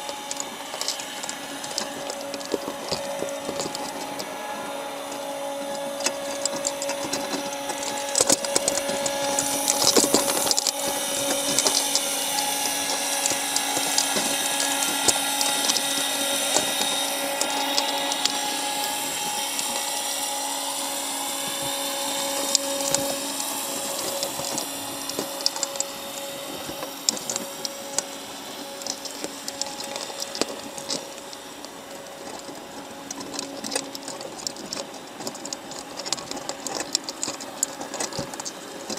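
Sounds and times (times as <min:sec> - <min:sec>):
crab shells clicking on wire trap: 0:00.0 - 0:38.9
underwater motor whine: 0:00.0 - 0:38.9.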